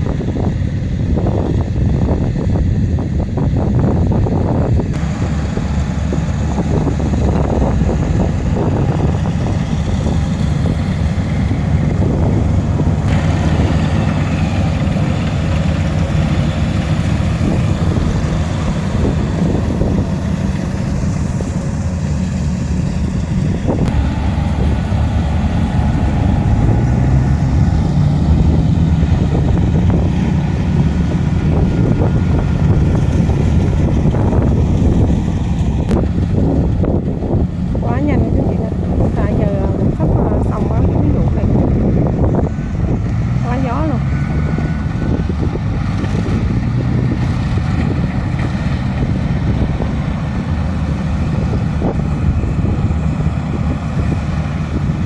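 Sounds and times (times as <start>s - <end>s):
combine harvester diesel engine: 0.0s - 55.0s
wind buffeting microphone: 0.0s - 55.0s.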